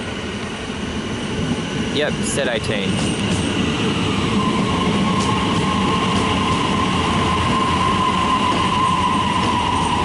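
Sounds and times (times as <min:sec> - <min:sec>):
steady train whine: 0:00.0 - 0:10.0
train wheels rumbling: 0:00.0 - 0:10.0.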